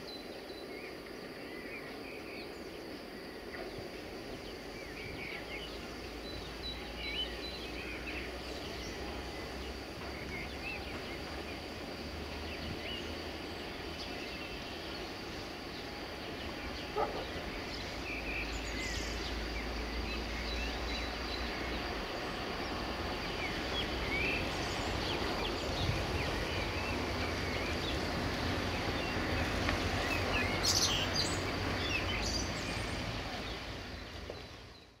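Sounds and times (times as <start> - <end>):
songbirds chirping: 0.0 - 35.0
steady background noise: 0.0 - 35.0.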